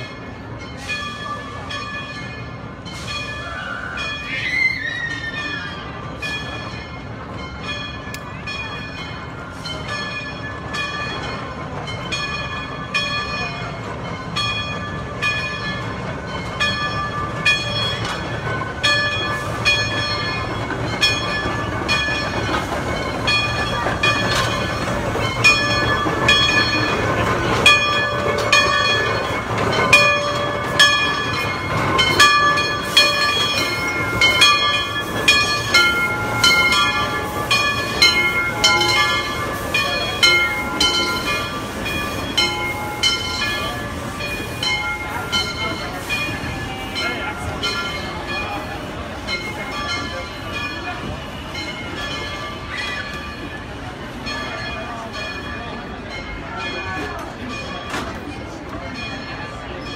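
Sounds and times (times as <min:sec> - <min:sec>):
steam locomotive bell ringing: 0:00.0 - 0:59.9
train rumbling: 0:00.0 - 0:59.9.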